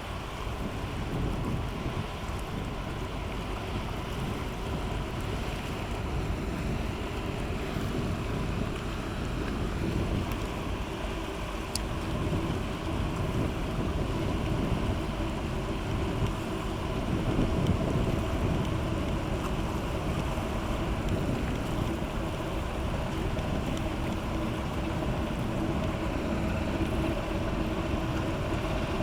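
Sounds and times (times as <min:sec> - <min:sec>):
wind noise on microphone: 0:00.0 - 0:29.0
ship diesel engine humming: 0:01.7 - 0:29.0.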